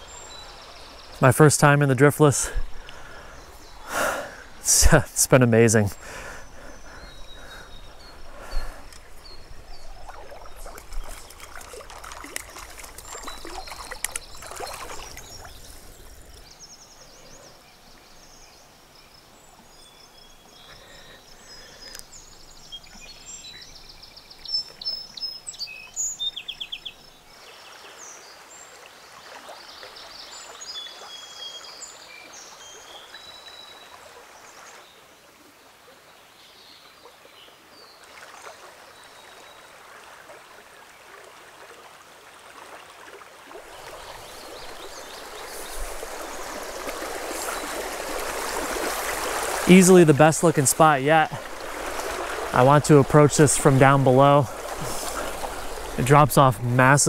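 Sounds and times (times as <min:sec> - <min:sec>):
birds singing and calling: 0:00.0 - 0:35.0, 0:43.6 - 0:57.0
small river flowing: 0:00.0 - 0:57.0.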